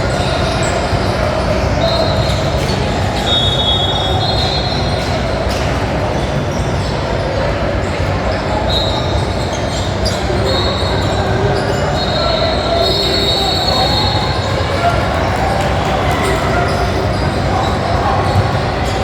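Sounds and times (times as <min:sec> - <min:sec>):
shoes squeaking on gym floor: 0:00.1 - 0:19.0.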